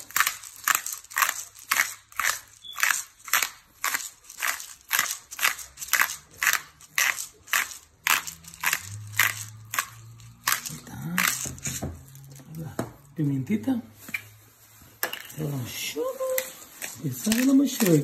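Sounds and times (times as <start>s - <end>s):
hand grinder grinding seasoning: 0.0s - 12.7s, 16.0s - 18.0s.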